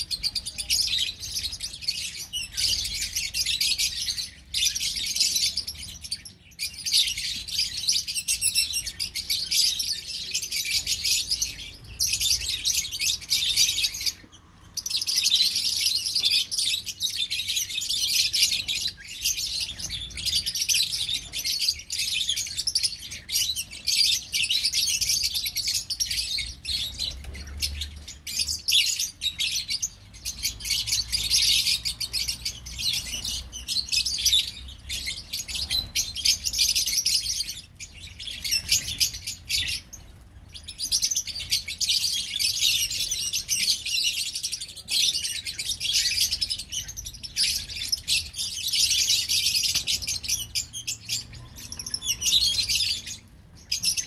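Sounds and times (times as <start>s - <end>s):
birds chattering and chirping: 0.0s - 54.0s.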